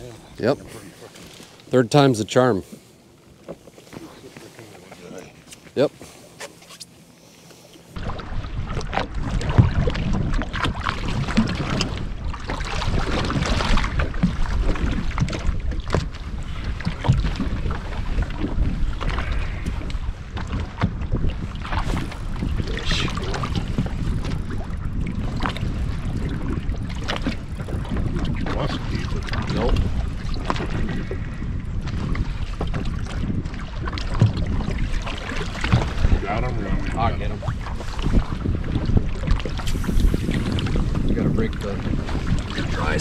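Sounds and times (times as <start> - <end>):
water slapping boat hull: 0.0 - 43.0
wind buffeting microphone: 8.0 - 43.0.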